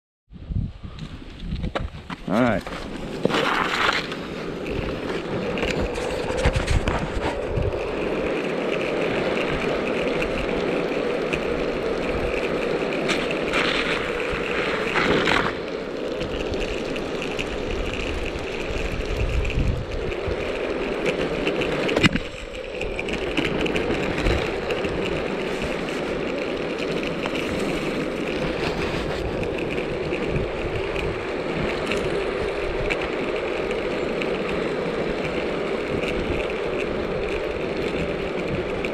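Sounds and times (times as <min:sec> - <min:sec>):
tyres rolling over rough asphalt: 0:01.5 - 0:38.9.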